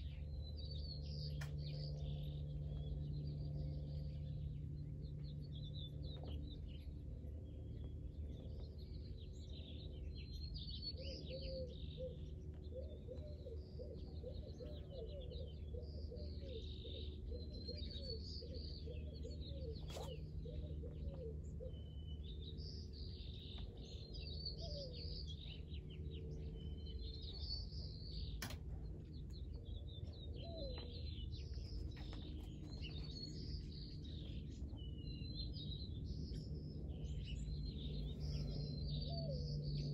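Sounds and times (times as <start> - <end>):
small birds twittering: 0.0 - 39.9
steady low hum: 0.0 - 39.9.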